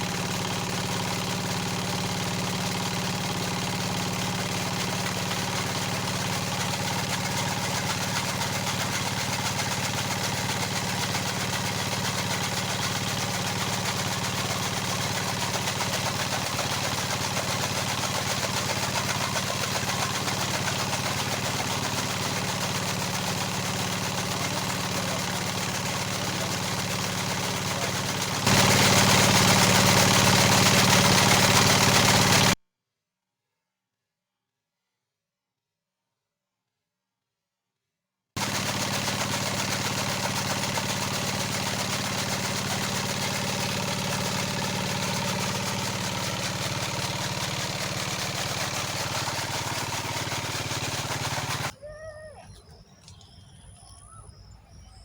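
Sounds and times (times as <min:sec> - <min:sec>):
engine running steadily: 0:00.0 - 0:32.6, 0:38.4 - 0:51.8.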